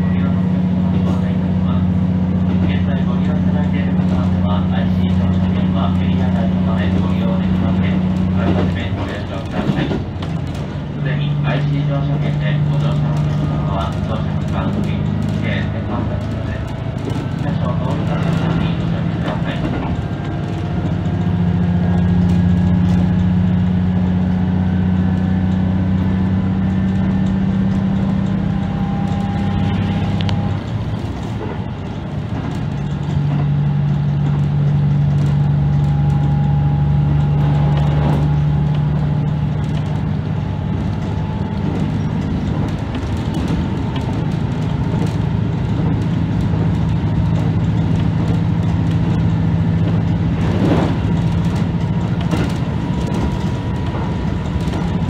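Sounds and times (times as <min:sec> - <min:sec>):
diesel engine droning: 0:00.0 - 0:55.0
wheels running on track: 0:00.0 - 0:55.0.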